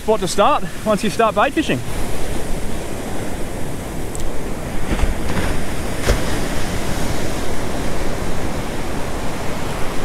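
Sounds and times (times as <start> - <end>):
ocean surf breaking: 0.0 - 10.0.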